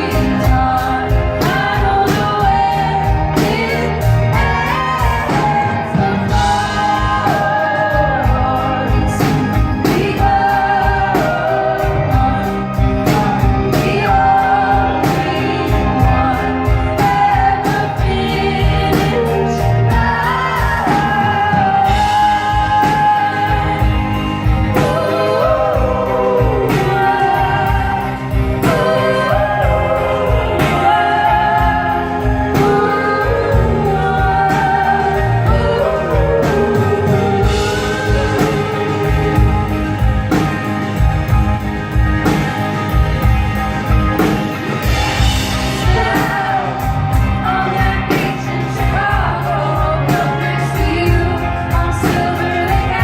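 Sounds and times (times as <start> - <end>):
women singing together: 0.0 - 39.9, 44.8 - 53.0
live band playing: 0.0 - 53.0.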